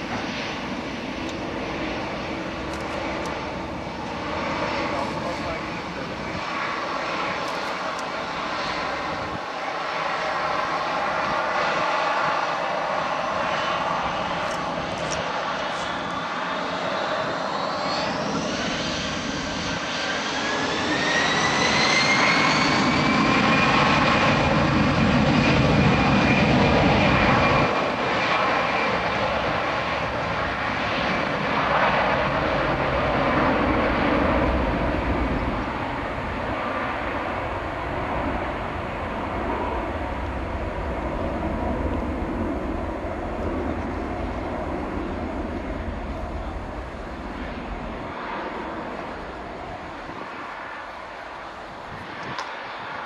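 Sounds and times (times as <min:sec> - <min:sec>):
jet engines spooling up: 0:00.0 - 0:31.2, 0:31.8 - 0:53.0
airliner engine roar: 0:00.0 - 0:53.0.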